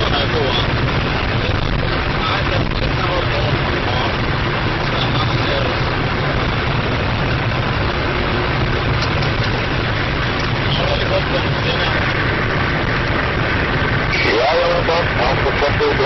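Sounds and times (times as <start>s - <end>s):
low engine hum: 0.0s - 16.0s
road and wind noise: 0.0s - 16.0s.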